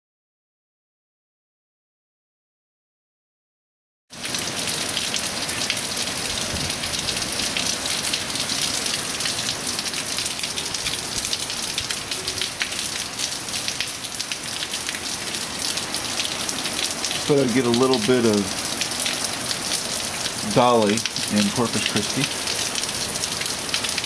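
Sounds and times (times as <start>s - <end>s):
heavy rain pouring: 4.1s - 24.0s.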